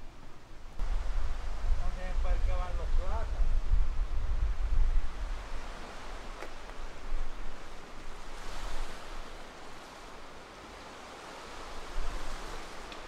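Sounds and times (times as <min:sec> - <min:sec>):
wind rumbling on microphone: 0:00.0 - 0:13.0
sea waves washing onto shore: 0:00.8 - 0:13.0.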